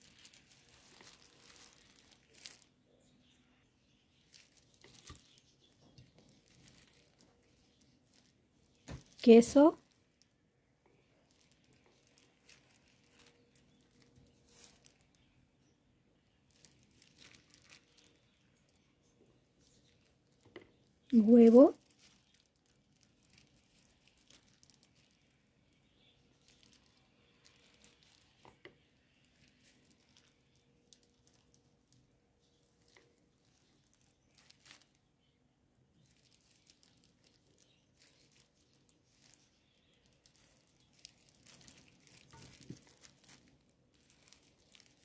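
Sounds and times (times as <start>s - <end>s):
plastic glove crinkling: 0.0s - 45.0s.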